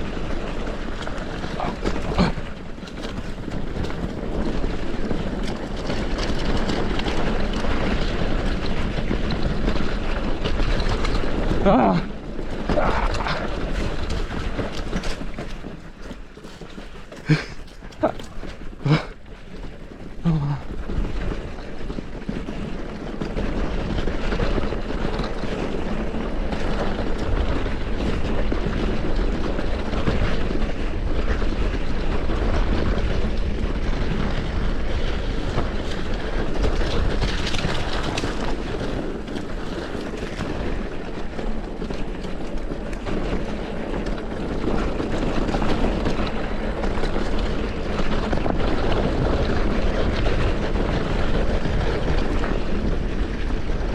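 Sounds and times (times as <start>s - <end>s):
bike rattling on dirt trail: 0.0s - 53.9s
wind rumble on microphone: 0.0s - 53.9s.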